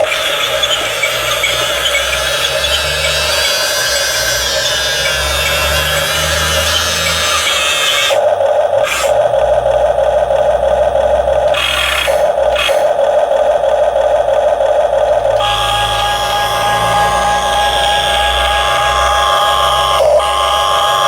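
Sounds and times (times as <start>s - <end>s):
electric motors whirring: 0.0s - 21.0s.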